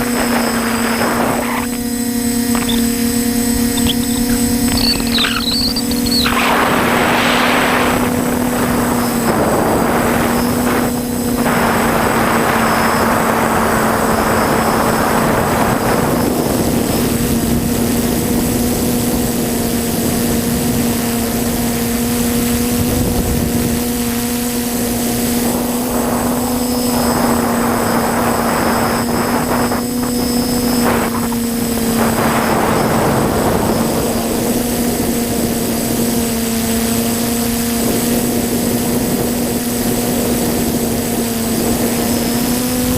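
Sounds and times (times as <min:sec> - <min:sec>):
quadcopter propellers humming: 0:00.0 - 0:42.9.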